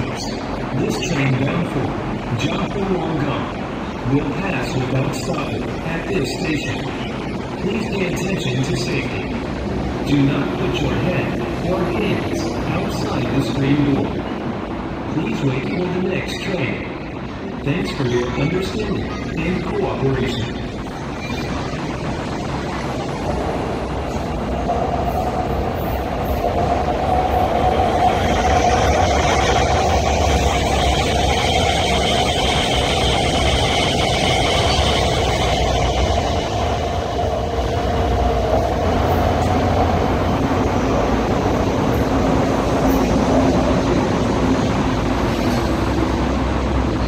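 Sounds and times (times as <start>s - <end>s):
electric train rumble: 0.0s - 47.0s
train high whine: 0.0s - 47.0s.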